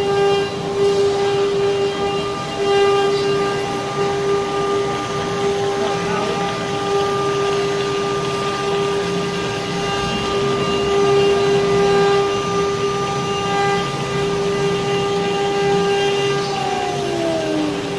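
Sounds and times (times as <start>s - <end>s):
spindle motor whine: 0.0s - 17.9s.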